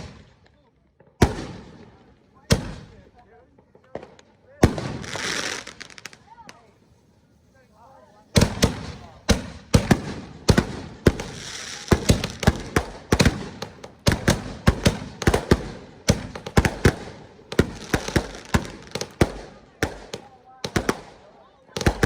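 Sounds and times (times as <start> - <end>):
fireworks bangs: 0.0 - 6.7, 8.2 - 22.0
fireworks crackling hiss: 3.6 - 22.0.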